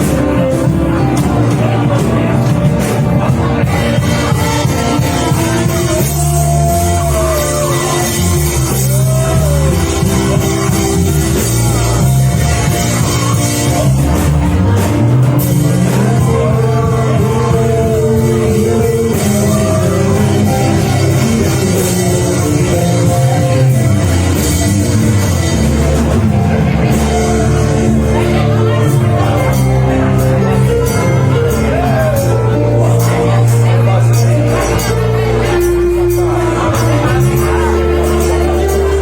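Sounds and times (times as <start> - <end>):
worship band music: 0.0 - 39.0.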